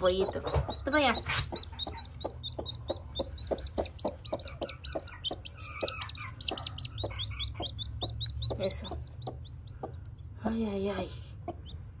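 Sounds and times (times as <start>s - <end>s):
chick peeping: 0.0s - 10.3s, 10.9s - 12.0s
hen clucking: 0.0s - 10.4s, 11.0s - 12.0s.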